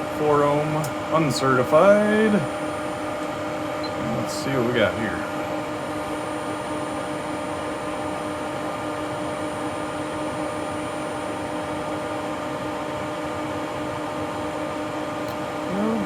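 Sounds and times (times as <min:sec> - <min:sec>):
cooling fans whirring with hum: 0:00.0 - 0:16.0.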